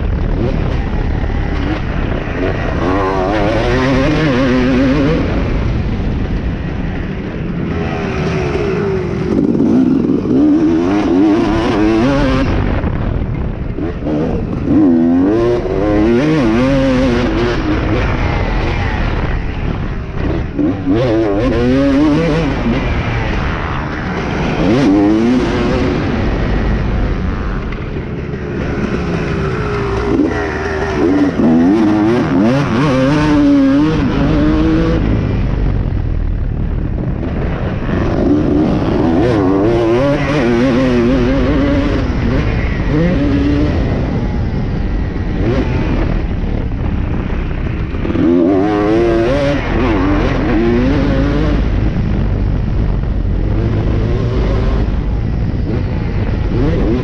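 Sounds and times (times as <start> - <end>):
motocross bike engine revving: 0.0 - 35.7, 36.8 - 57.0.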